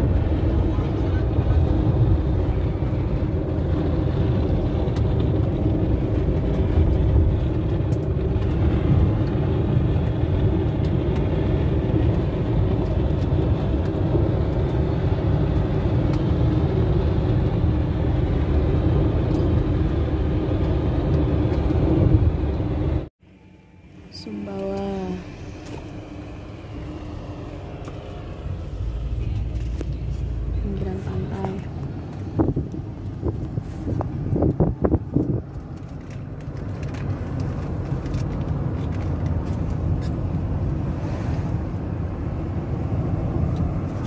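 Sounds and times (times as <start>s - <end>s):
car road and engine noise: 0.0s - 44.0s.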